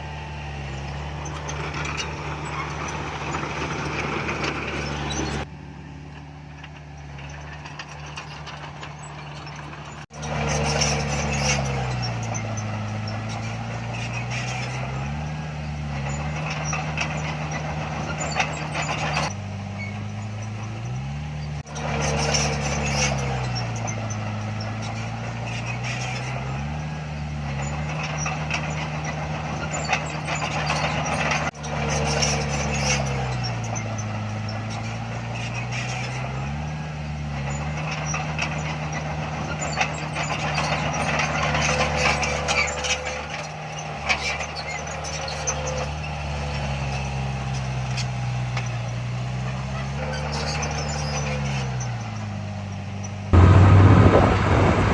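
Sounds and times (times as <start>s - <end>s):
heavy diesel engine under load: 0.0s - 54.9s.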